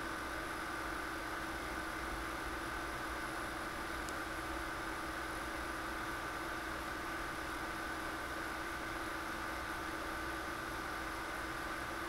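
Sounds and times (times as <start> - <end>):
computer equipment hum and hiss: 0.0 - 12.0.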